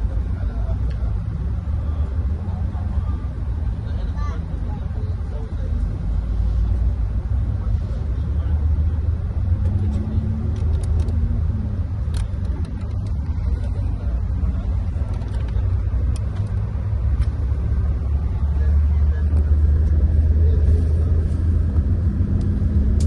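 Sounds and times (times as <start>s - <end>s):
coach engine rumble: 0.0s - 23.0s.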